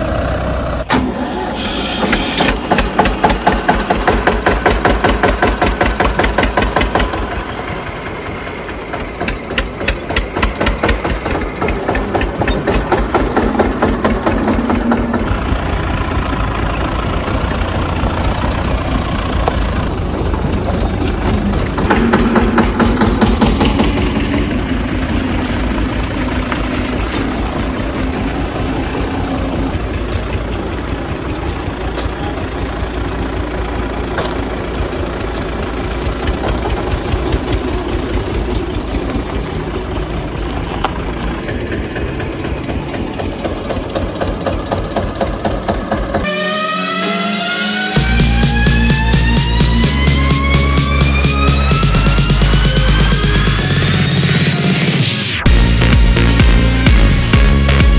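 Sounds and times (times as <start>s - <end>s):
diesel engines knocking: 0.0s - 57.9s.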